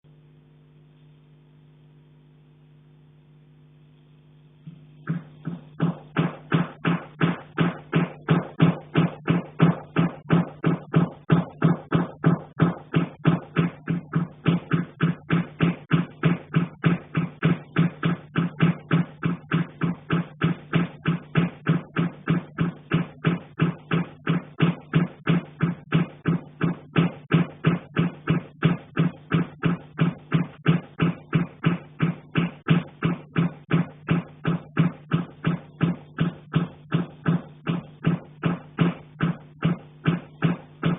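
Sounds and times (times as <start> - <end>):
metal heating pipe knocking: 5.0 - 40.9.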